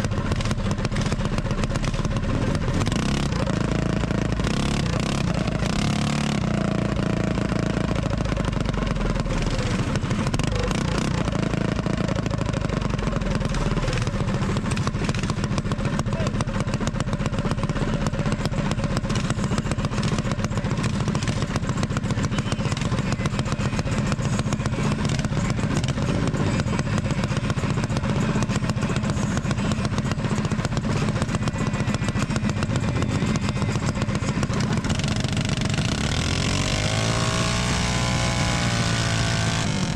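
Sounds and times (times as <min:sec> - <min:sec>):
small engines idling: 0:00.0 - 0:39.9.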